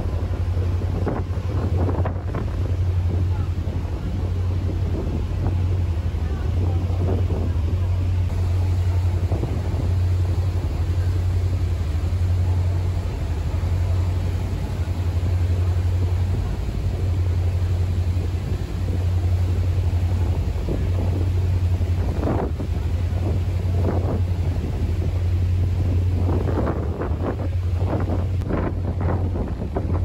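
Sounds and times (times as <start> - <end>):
diesel engine droning: 0.0 - 30.0
wind noise on microphone: 0.0 - 30.0.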